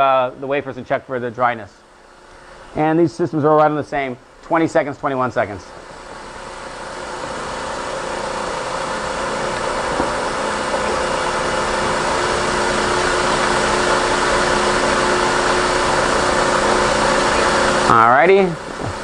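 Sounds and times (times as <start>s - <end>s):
spin dryers whirring hum: 0.0s - 19.0s.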